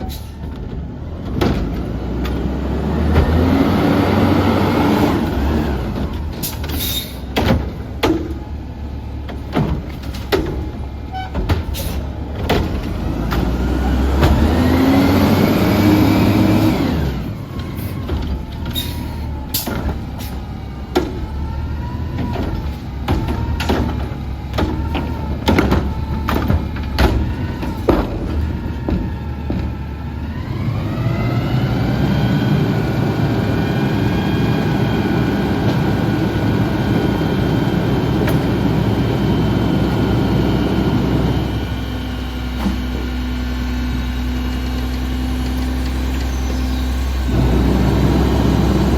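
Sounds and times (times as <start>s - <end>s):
garbage truck engine revving: 0.8s - 48.9s.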